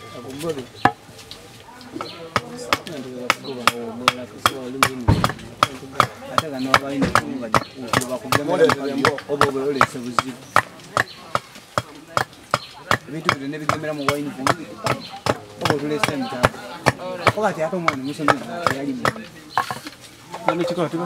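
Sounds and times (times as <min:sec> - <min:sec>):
voices talking: 0:00.0 - 0:21.0
hand axe chopping wood: 0:02.0 - 0:20.8.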